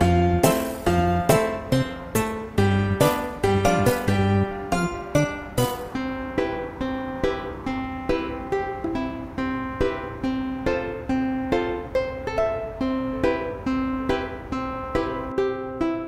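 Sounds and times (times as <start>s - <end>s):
plucked string tune: 0.0s - 16.0s.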